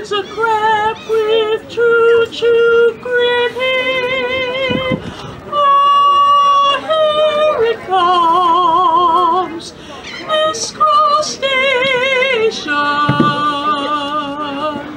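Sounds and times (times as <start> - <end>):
woman singing with vibrato: 0.0 - 14.9.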